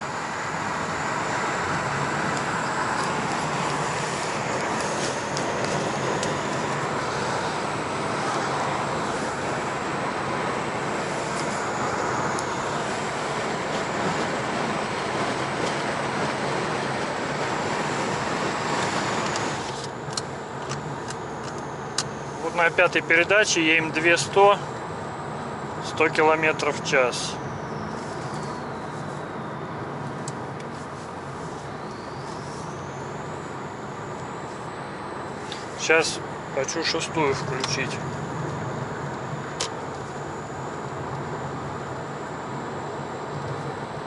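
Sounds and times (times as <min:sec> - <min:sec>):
car engine and road noise: 0:00.0 - 0:44.0
high turbo whine: 0:00.0 - 0:44.0.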